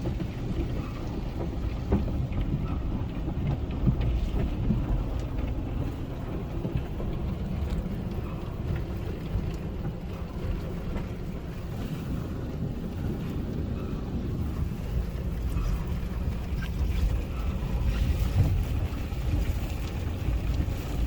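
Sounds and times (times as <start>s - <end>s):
car wash equipment rumbling: 0.0s - 21.0s.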